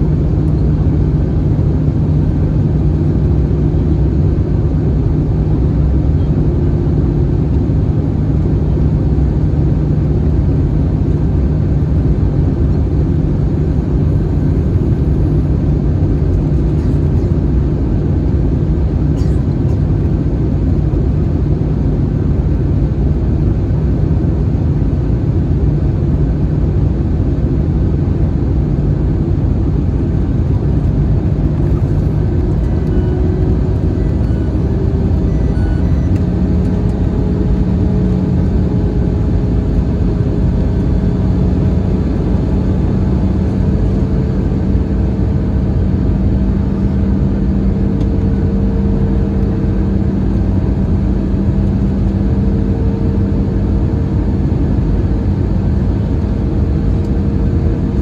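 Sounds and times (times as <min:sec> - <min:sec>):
airplane cabin engine and airflow: 0:00.0 - 0:58.0.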